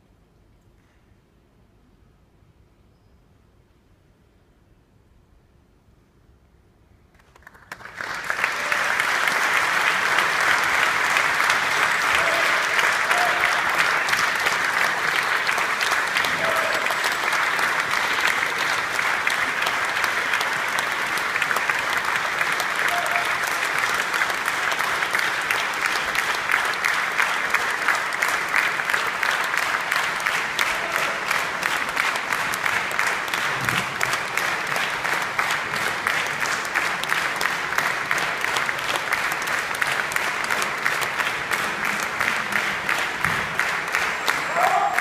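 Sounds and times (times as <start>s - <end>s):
audience applauding: 7.1s - 45.0s.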